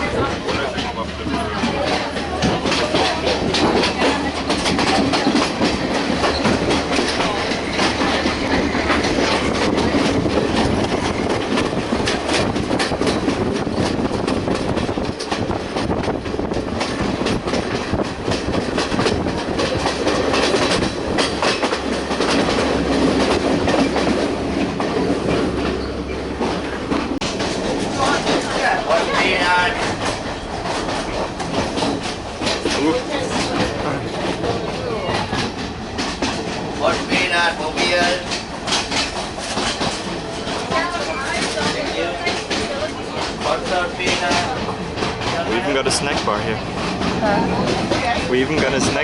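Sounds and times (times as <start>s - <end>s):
train rumble inside carriage: 0.0s - 49.0s
wheels clattering over rail joints: 0.0s - 49.0s.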